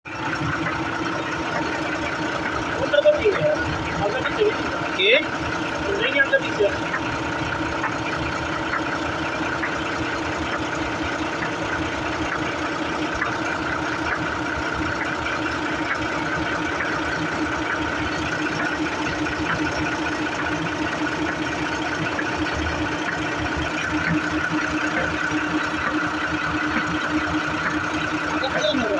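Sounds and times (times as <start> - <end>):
truck engine running: 0.0 - 28.9
gearbox whine: 0.1 - 28.9.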